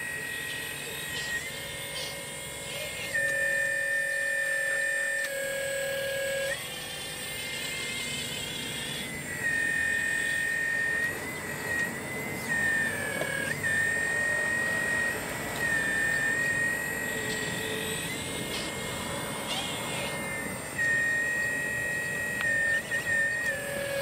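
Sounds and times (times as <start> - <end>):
hydraulic pump electric whine: 0.0 - 24.0.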